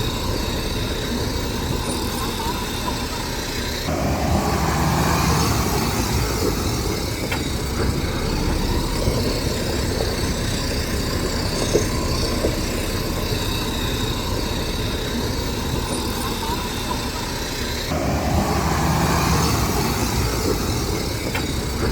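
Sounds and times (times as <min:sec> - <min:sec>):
diesel earthmoving machinery: 0:00.0 - 0:21.9.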